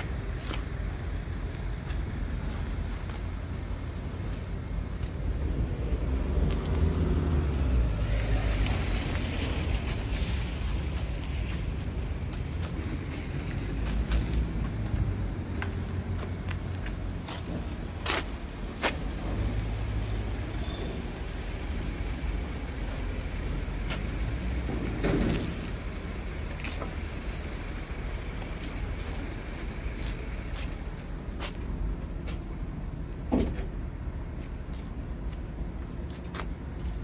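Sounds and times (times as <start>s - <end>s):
vehicle engine idling: 0.0s - 37.0s.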